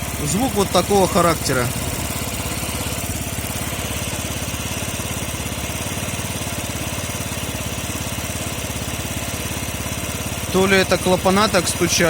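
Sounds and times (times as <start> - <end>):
scooter engine idling with clatter: 0.0 - 12.0.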